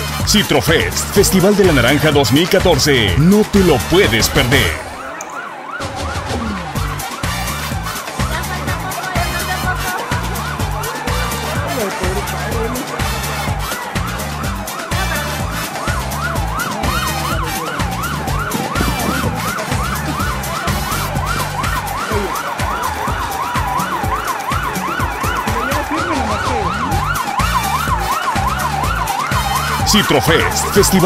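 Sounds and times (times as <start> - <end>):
background music with steady beat: 0.0 - 31.0
yelp siren: 0.2 - 31.0.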